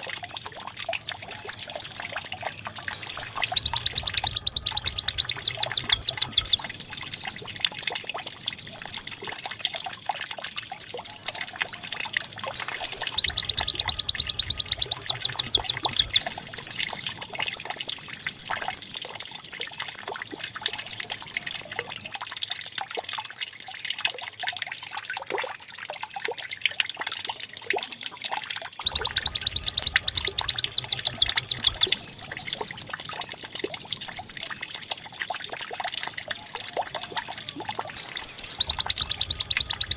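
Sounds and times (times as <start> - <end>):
bird chattering trills and whistles: 0.0 - 21.8, 28.9 - 39.9.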